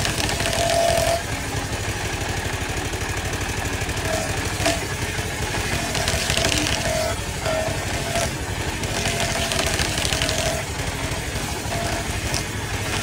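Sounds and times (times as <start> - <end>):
engine running with low pulse: 0.0 - 13.0.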